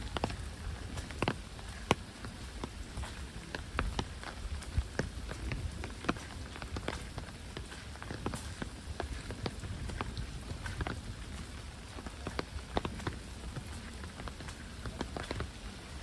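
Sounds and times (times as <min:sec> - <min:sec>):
heavy rain pouring: 0:00.0 - 0:16.0
raindrops ticking sharply: 0:00.0 - 0:16.0.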